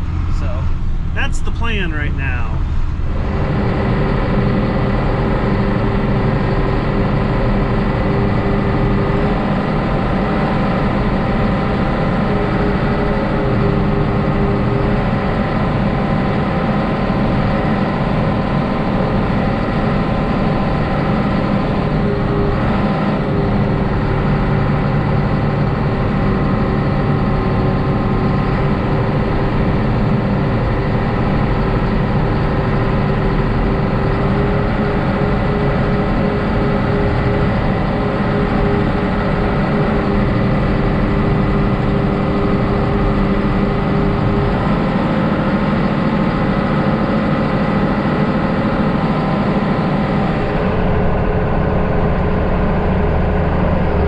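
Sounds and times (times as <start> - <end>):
large vehicle engine running: 0.0 - 54.0.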